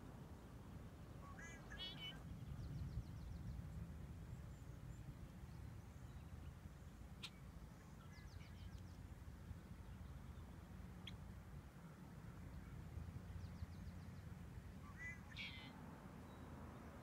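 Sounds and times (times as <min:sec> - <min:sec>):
faint wild birds calling: 0:00.6 - 0:17.0.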